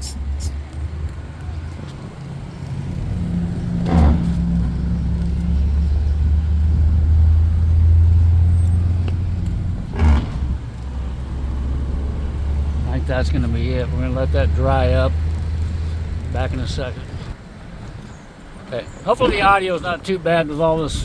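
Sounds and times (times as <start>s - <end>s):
wind buffeting microphone: 0.4s - 21.0s.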